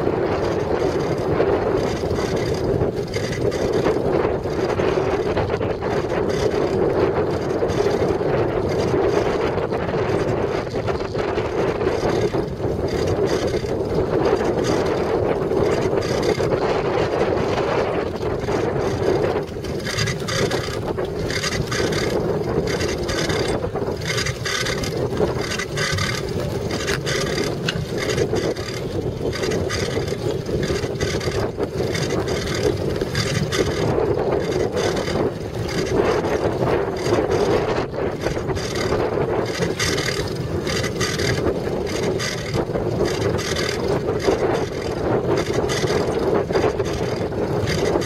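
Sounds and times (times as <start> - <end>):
bicycle rumble and rattling: 0.0 - 48.0
wind buffeting microphone: 0.0 - 48.0.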